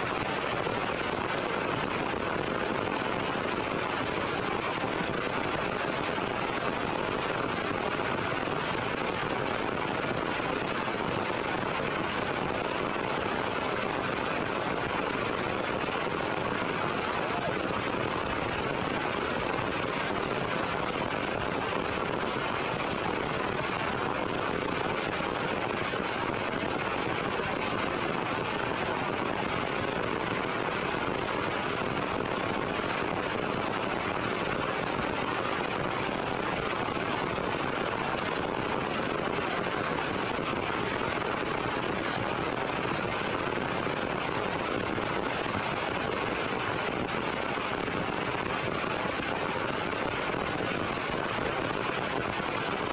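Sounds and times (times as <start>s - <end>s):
heavy rain on leaves: 0.0s - 52.9s.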